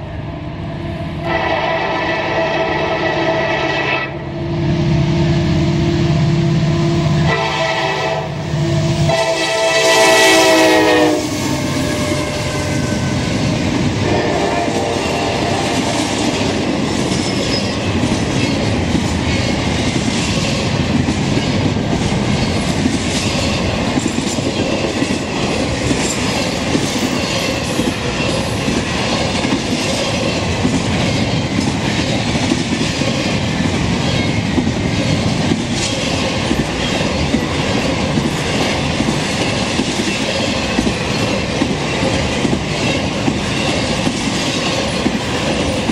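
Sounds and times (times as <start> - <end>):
train wheels rumbling on rail: 0.0 - 45.9
rail clacks: 7.2 - 45.9.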